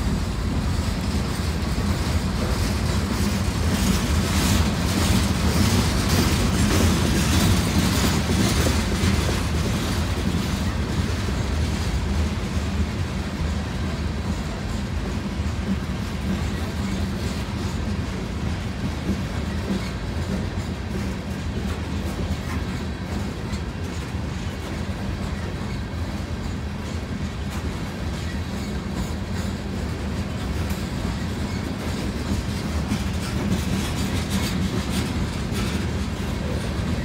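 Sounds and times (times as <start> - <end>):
train wheels rumbling on rail: 0.0 - 37.0
wheels clicking over rail joints: 0.0 - 37.0.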